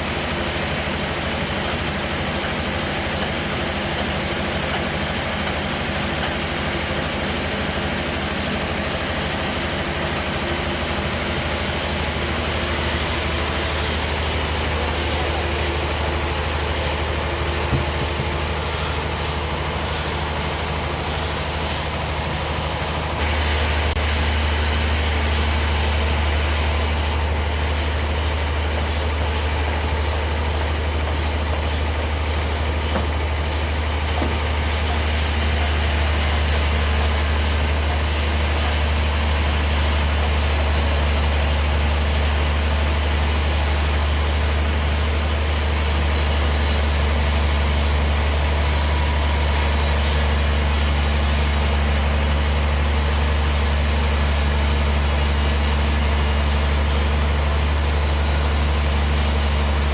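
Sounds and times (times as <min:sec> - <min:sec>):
bandsaw sawmill humming: 0:00.0 - 0:59.9.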